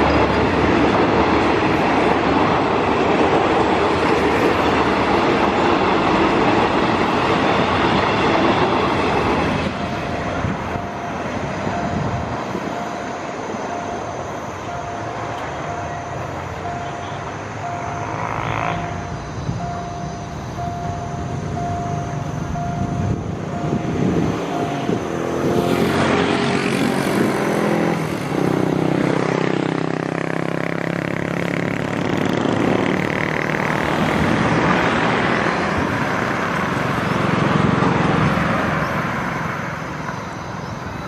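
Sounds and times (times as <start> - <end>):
locomotive engine: 0.0 - 41.0
train carriages rolling on rails: 0.0 - 41.0.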